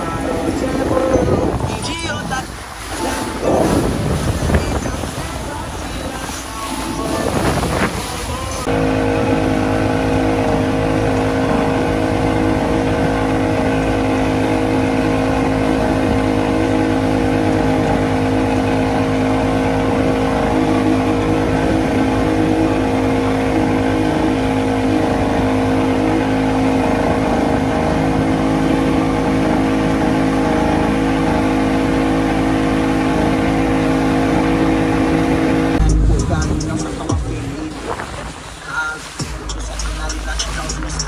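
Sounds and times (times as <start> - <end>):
outboard motor at high throttle: 0.0 - 41.0.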